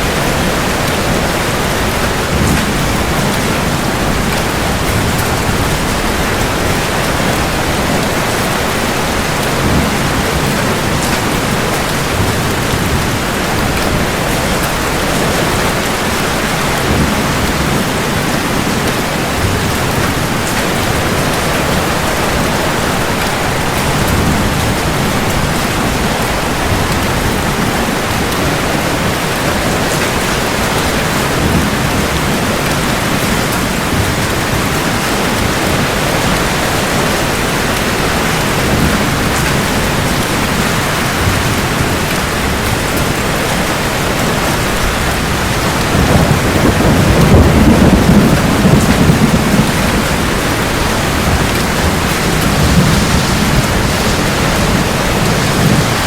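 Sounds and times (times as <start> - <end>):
heavy rain falling: 0.0 - 56.0
thunder rumble: 0.0 - 56.0.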